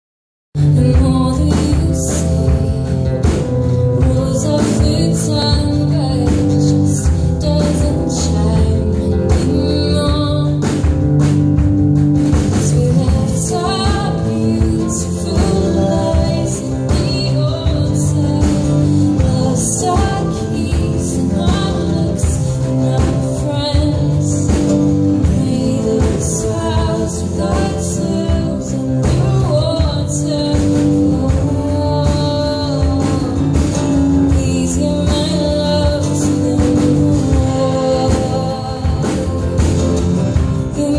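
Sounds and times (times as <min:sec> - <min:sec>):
acoustic guitars strumming: 0:00.6 - 0:40.9
woman singing: 0:00.6 - 0:40.9.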